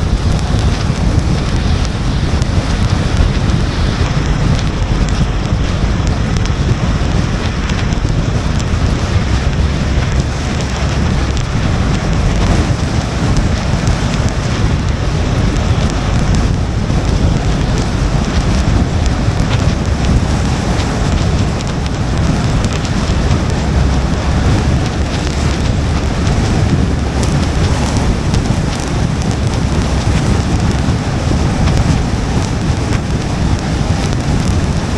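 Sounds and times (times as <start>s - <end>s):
car driving low rumble: 0.0s - 34.9s
raindrop ticks: 0.0s - 34.9s.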